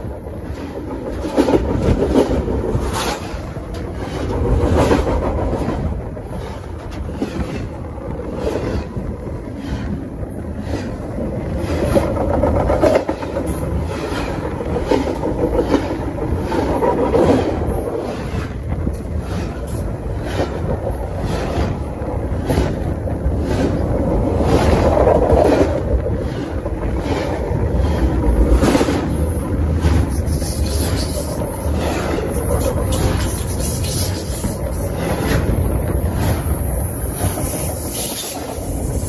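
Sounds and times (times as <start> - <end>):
train wheels rumbling and rattling: 0.0 - 39.0.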